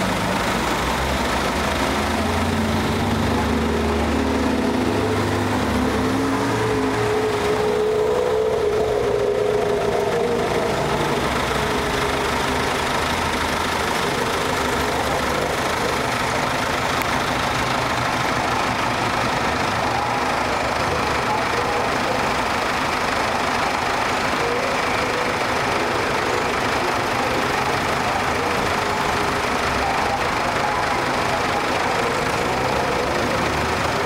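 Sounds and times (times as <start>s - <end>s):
cars passing: 0.0s - 34.0s
idling engines: 0.0s - 34.0s.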